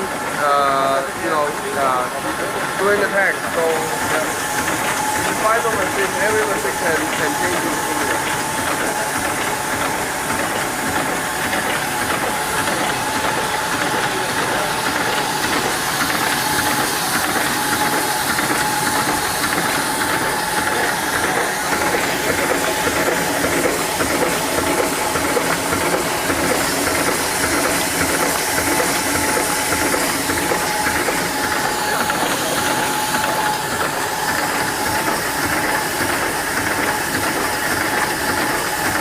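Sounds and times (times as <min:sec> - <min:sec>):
thin steady whine: 0:00.0 - 0:37.8.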